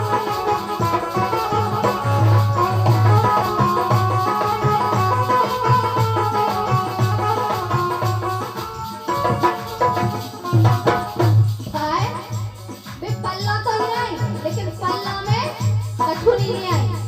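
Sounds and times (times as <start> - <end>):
deep drum beats: 0.0 - 17.0
droning folk melody: 0.0 - 17.0
rattling percussion: 0.0 - 17.0.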